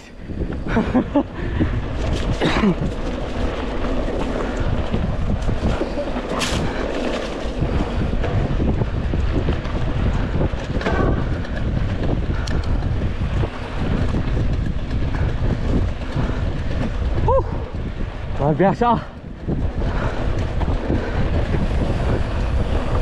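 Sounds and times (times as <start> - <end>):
wind buffeting microphone: 0.0 - 23.0
mountain bike on dirt trail: 0.2 - 23.0.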